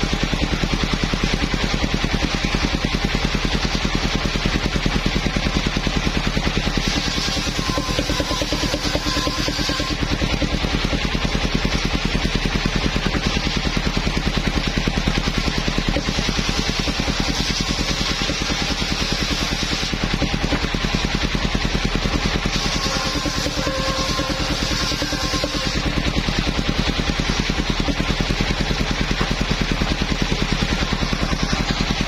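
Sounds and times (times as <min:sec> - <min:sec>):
saw blade cutting log: 0:00.0 - 0:32.0
sawmill engine pulsing: 0:00.0 - 0:32.0.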